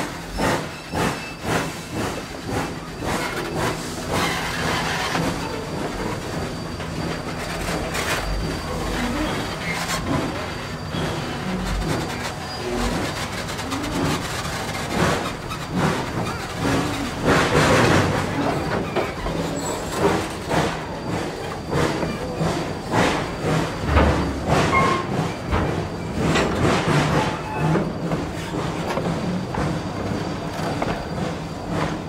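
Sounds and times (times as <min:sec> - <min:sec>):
steam train clanking: 0:00.0 - 0:32.0.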